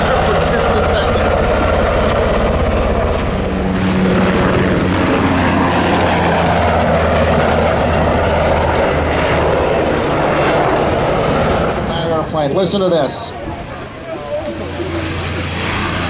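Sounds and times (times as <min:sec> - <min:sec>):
helicopter rotors and engines droning: 0:00.0 - 0:16.0.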